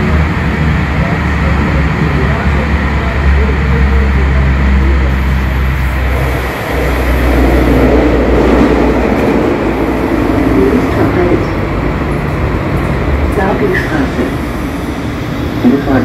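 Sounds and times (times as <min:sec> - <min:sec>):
light-rail car rumble: 0:00.0 - 0:16.0.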